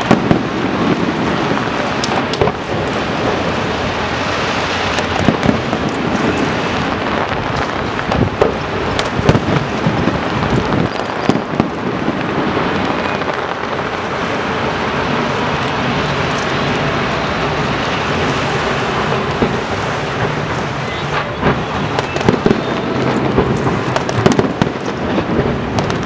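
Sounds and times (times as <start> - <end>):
firework bangs: 0.0 - 26.0
steady rushing noise: 0.0 - 26.0.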